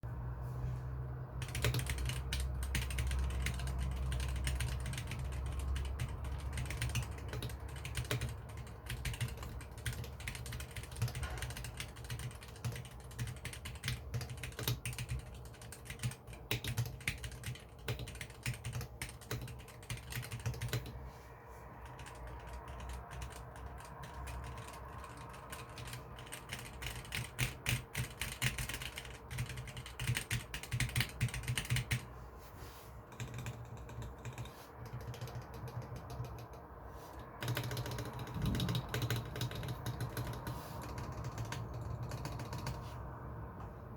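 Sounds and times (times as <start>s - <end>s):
mechanical keyboard typing: 1.4s - 21.0s, 21.8s - 32.1s, 33.1s - 42.8s.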